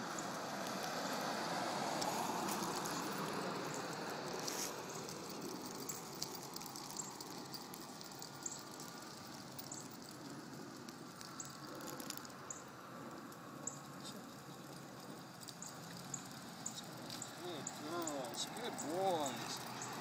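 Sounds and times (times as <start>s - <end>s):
passing vehicle road noise: 0.0s - 20.0s
small clicks: 2.0s - 20.0s.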